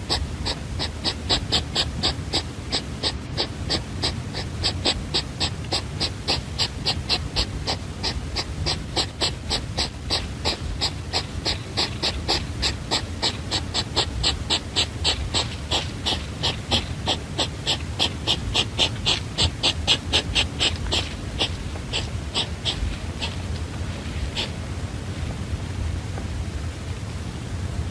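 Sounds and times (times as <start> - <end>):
small animal making sharp sounds: 0.0 - 24.6.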